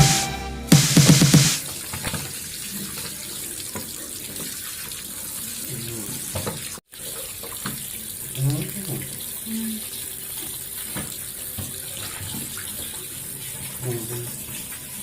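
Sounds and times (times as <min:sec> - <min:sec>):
water running from a tap: 0:01.6 - 0:15.0.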